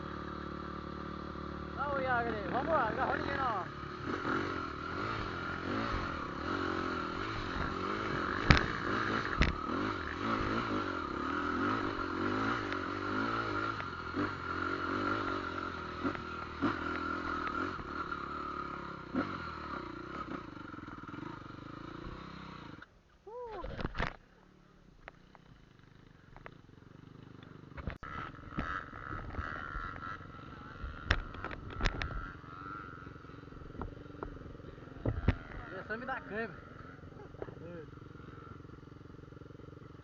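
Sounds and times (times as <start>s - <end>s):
vehicle engine running: 0.0s - 22.7s, 25.0s - 40.0s.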